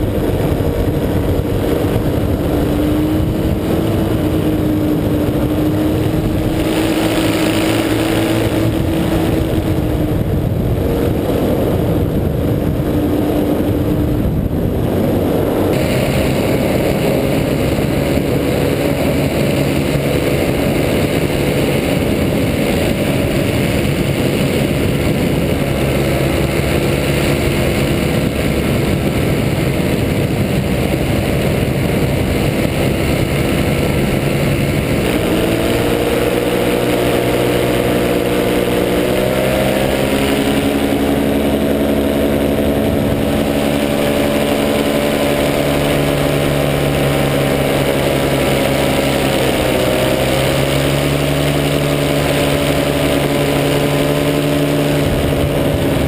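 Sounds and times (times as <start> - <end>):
air rushing past: 0.0 - 56.0
paramotor engine humming: 0.0 - 56.0.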